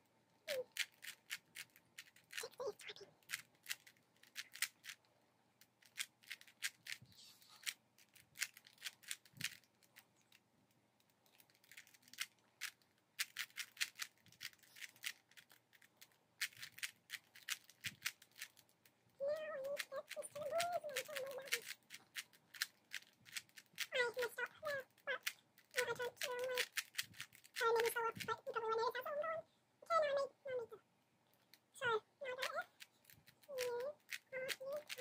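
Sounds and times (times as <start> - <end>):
puzzle cube clicking: 0.5 - 10.4, 11.0 - 29.1, 32.3 - 35.0.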